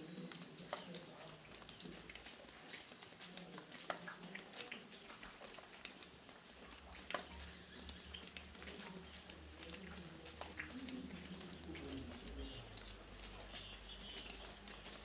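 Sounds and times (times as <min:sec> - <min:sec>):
drips falling from a roof: 0:00.0 - 0:15.0
fine rain hiss: 0:00.0 - 0:15.0.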